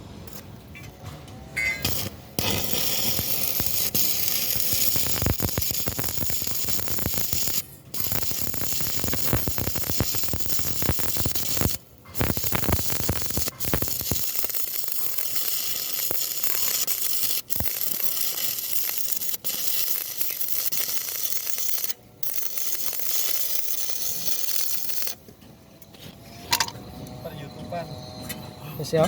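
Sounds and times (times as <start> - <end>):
welding arc crackling and hissing: 1.6 - 25.3.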